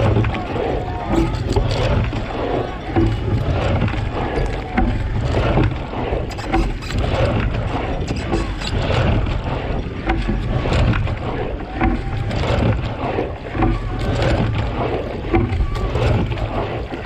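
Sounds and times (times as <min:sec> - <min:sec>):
oar stirring water: 0:00.0 - 0:17.0
water splashing against hull: 0:00.0 - 0:17.0
wind on microphone: 0:00.0 - 0:17.0.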